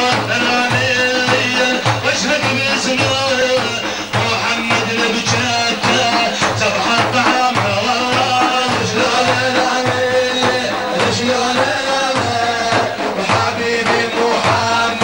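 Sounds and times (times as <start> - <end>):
man singing: 0.0 - 15.0
repeating drum beat: 0.0 - 15.0.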